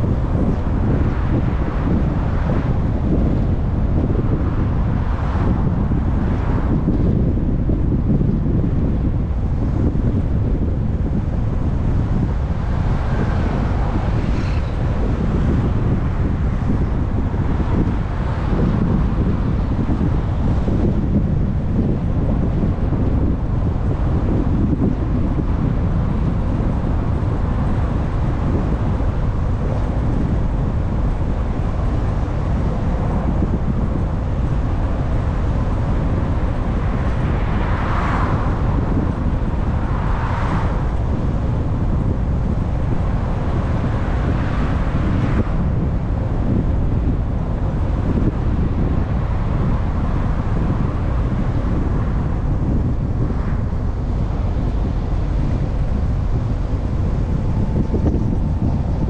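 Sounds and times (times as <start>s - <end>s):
passing vehicles: 0.0s - 59.0s
tyre and wind noise from car: 0.0s - 59.0s.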